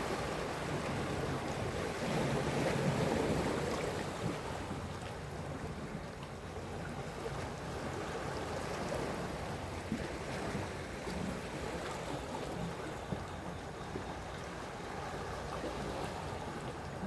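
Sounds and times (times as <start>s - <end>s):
sea waves lapping on shore: 0.0s - 17.0s.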